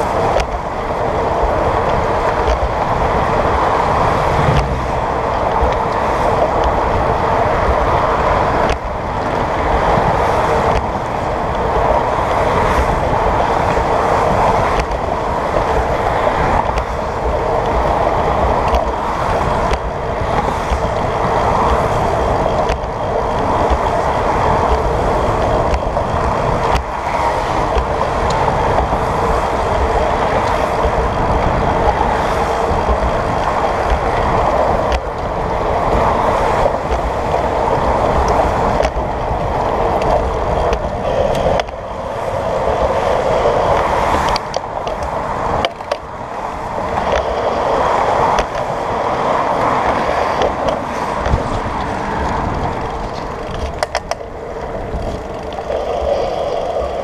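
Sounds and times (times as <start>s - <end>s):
cars passing: 0.0s - 57.0s
tyres rolling on pavement: 0.0s - 57.0s
wind rushing over microphone: 0.0s - 57.0s.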